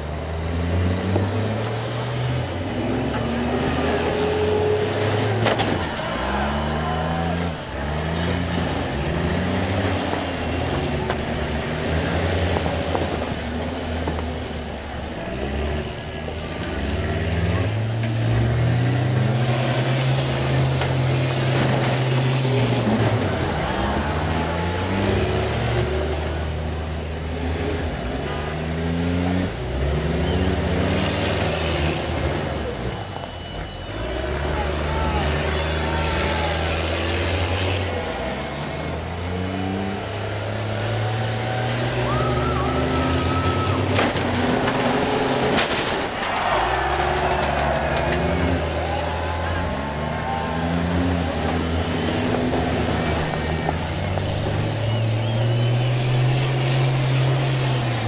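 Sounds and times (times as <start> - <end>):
bus engines revving: 0.0 - 58.0.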